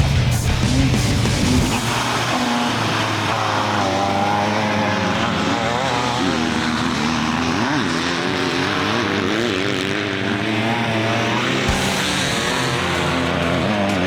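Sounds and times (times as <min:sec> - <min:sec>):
race vehicle engines revving: 0:00.0 - 0:14.0.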